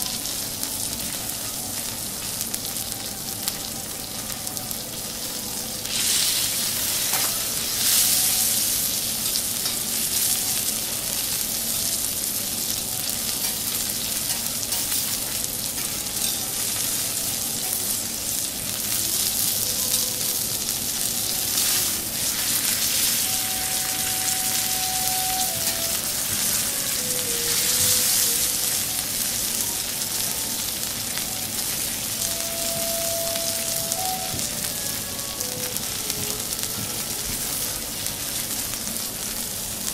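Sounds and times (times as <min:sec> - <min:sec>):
steak sizzling on a griddle: 0:00.0 - 0:39.9.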